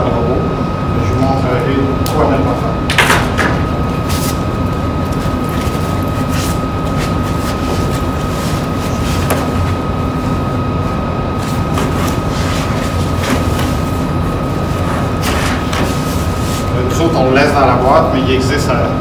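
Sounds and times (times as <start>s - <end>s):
rumbling room noise: 0.0s - 19.0s.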